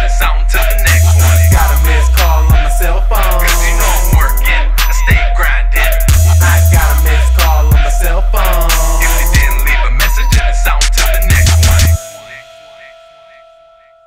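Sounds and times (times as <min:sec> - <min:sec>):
hip hop beat with heavy bass: 0:00.0 - 0:14.0.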